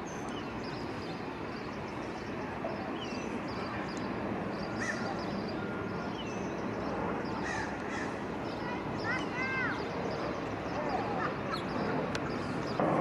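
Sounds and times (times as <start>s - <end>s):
birds chirping: 0.0s - 13.0s
steady rushing noise: 0.0s - 13.0s.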